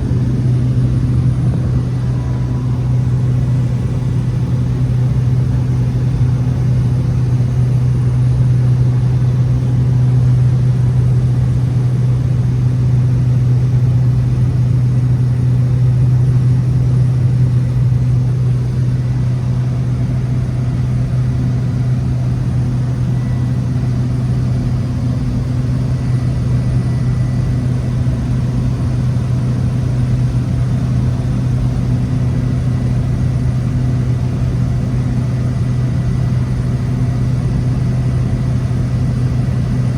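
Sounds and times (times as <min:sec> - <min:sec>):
turboprop plane drone: 0:00.0 - 0:39.9.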